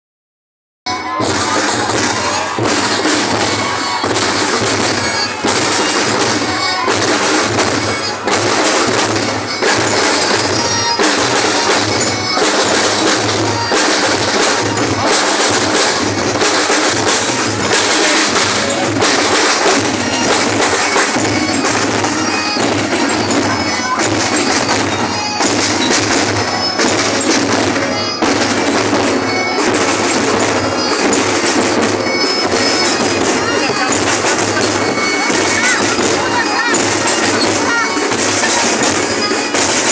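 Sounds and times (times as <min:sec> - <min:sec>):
drums playing steady beat: 0:00.9 - 0:39.9.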